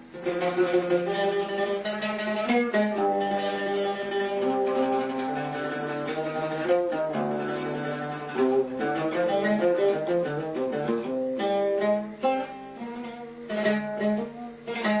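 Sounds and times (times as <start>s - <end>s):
plucked and bowed strings melody: 0.0s - 15.0s.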